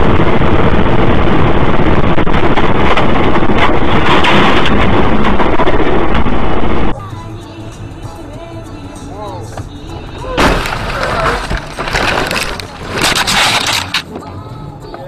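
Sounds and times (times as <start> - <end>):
wind and road noise while driving: 0.0 - 15.0.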